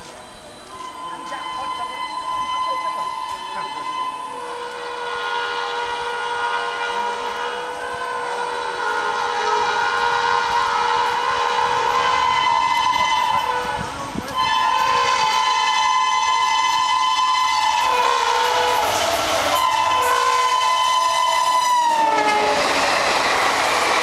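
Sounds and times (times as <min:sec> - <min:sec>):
locomotive horn blast: 0:00.7 - 0:22.8.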